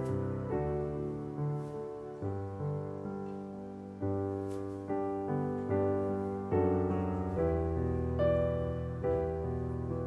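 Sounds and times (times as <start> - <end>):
electric keyboard piano chords: 0.0 - 10.0.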